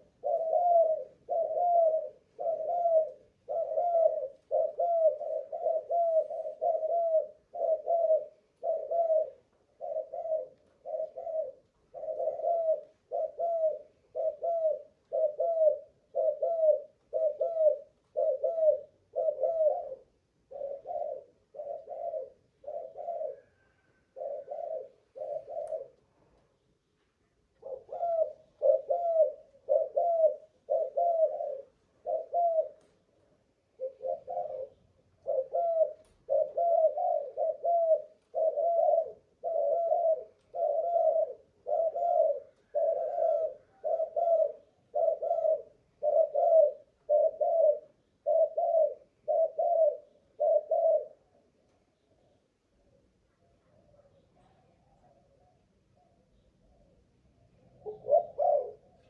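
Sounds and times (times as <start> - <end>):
dove cooing: 0.0 - 26.4, 27.4 - 53.2, 53.8 - 59.0.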